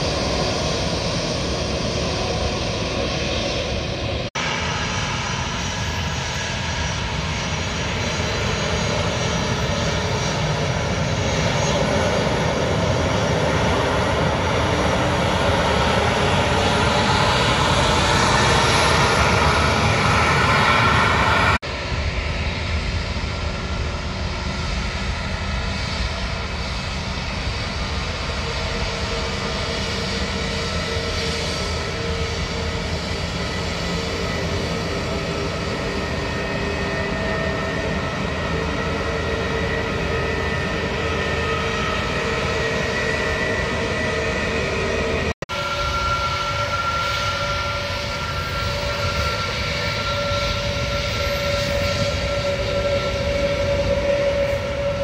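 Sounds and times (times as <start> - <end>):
airliner engines passing: 0.0 - 55.0
steady aircraft engine noise: 0.0 - 55.0.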